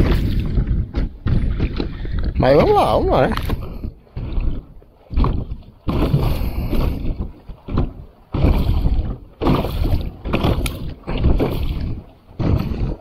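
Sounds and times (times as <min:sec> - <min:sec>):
kayak paddle strokes in water: 0:00.0 - 0:13.0
wind buffeting microphone: 0:00.0 - 0:13.0.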